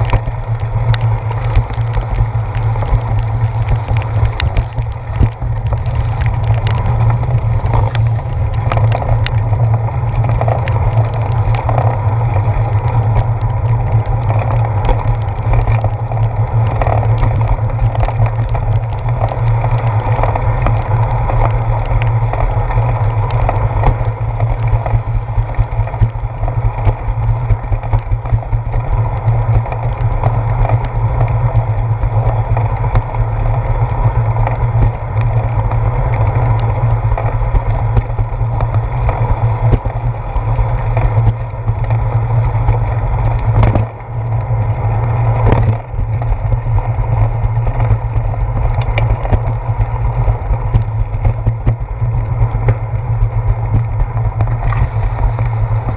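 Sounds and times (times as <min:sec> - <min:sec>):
bicycle knocking over bumps: 0:00.0 - 0:55.9
wind and road rumble: 0:00.0 - 0:55.9.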